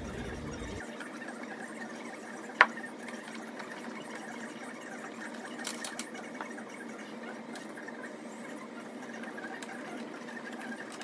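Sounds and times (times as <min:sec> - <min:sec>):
steady whirring: 0:00.0 - 0:11.0.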